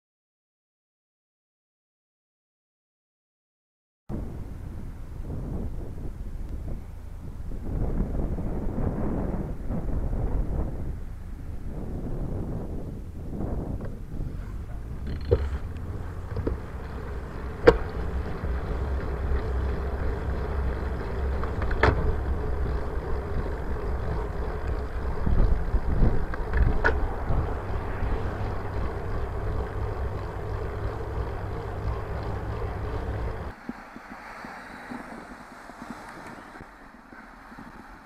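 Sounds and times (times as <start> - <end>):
road rumble: 4.1 - 38.0
wind buffeting microphone: 4.1 - 38.0.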